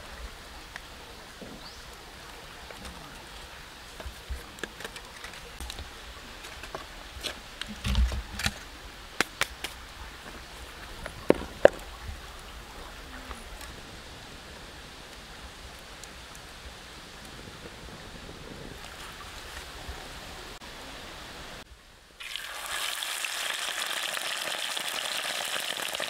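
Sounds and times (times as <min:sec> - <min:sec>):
steady outdoor hiss: 0:00.0 - 0:26.0
twig fire crackling: 0:01.6 - 0:20.6, 0:22.2 - 0:26.0.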